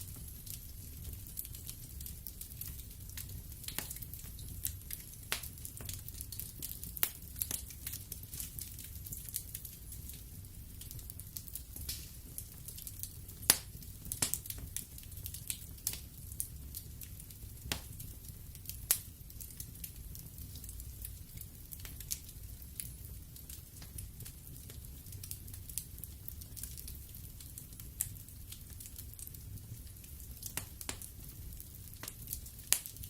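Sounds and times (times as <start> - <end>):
fire rumbling: 0.0 - 33.0
logs crackling and popping: 0.0 - 33.0.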